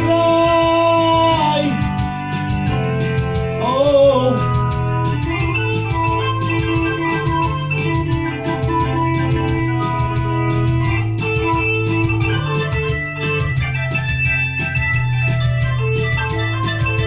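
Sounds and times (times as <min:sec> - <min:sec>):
bending lead note: 0:00.0 - 0:17.0
electronic keyboard organ chords: 0:00.0 - 0:17.0
steady backing beat: 0:00.0 - 0:17.0.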